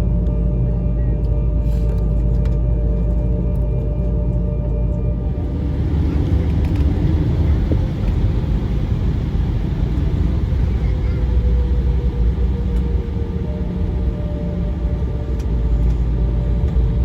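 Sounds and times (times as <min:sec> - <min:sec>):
faint engine whine: 0:00.0 - 0:17.0
jet engine low rumble in cabin: 0:00.0 - 0:17.0.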